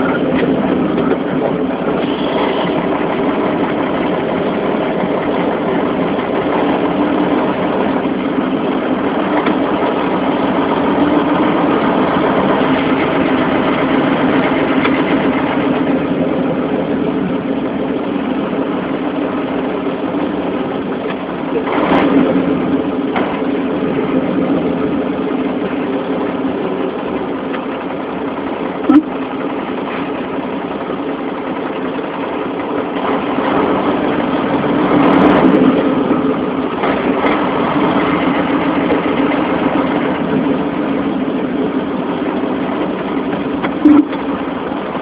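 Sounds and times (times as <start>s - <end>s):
truck engine running: 0.0s - 45.0s.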